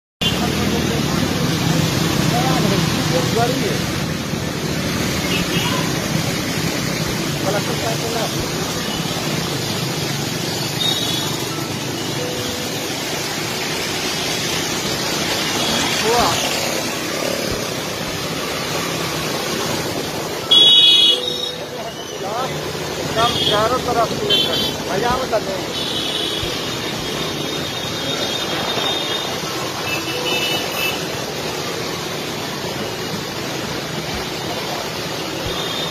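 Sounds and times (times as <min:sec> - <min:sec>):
motorcycle engines running: 0:00.2 - 0:20.6, 0:21.2 - 0:35.9
traffic driving through floodwater: 0:00.2 - 0:35.9
water washing under wheels: 0:00.2 - 0:35.9.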